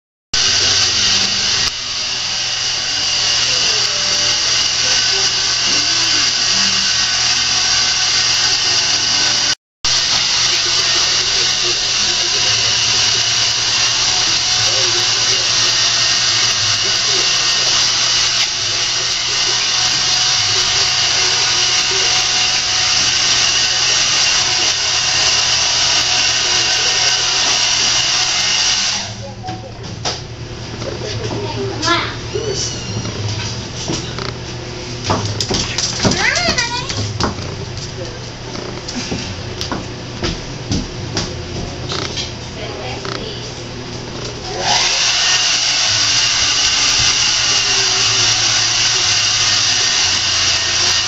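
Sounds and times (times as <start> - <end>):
loud steady whirring motor: 0.4 - 51.0.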